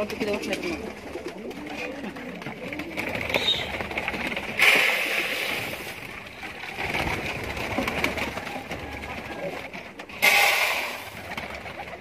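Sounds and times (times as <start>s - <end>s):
pigeon wings flapping: 0.0s - 12.0s
pigeons cooing: 0.0s - 12.0s.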